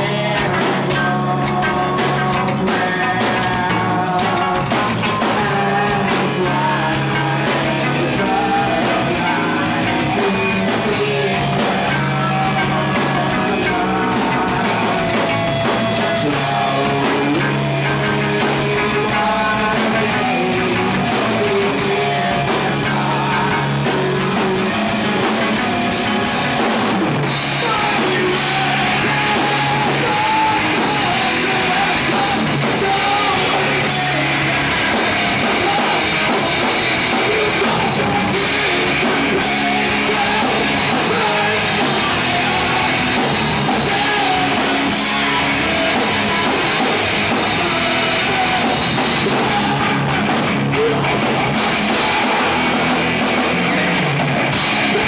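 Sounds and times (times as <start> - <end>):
bass guitar: 0.0 - 55.0
drum kit: 0.0 - 55.0
electric guitars: 0.0 - 55.0
person singing: 0.0 - 55.0.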